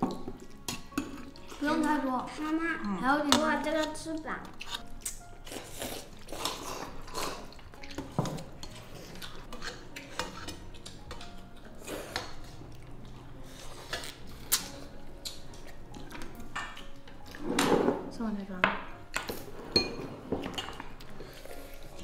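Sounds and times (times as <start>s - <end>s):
utensils clinking against bowls: 0.0s - 12.6s, 13.6s - 22.0s.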